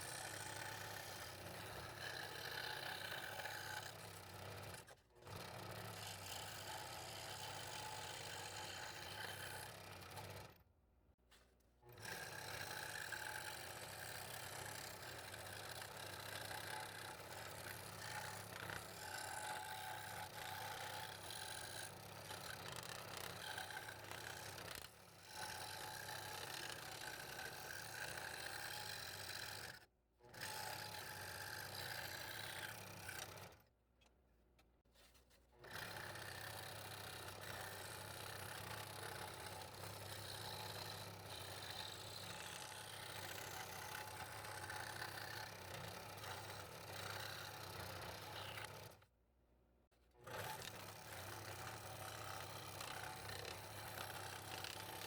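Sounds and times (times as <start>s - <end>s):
scroll saw cutting wood: 0.0s - 5.0s, 5.6s - 10.3s, 12.0s - 33.6s, 35.0s - 49.1s, 50.2s - 55.0s.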